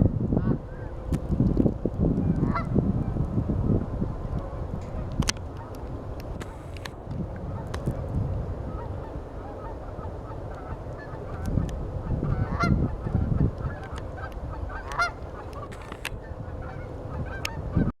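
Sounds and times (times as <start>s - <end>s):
steady low rumble: 0.0s - 17.9s
geese honking: 2.3s - 6.9s, 7.5s - 17.9s.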